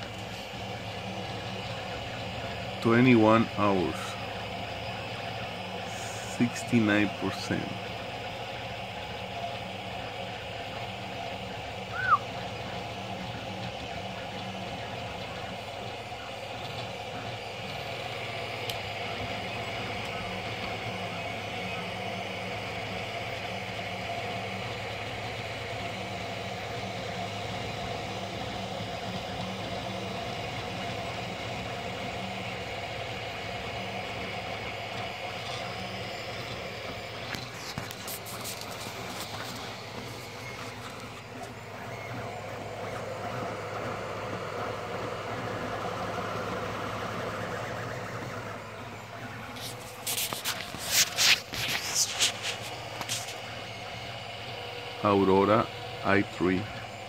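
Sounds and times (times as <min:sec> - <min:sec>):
printer mechanical hum: 0:00.0 - 0:57.0.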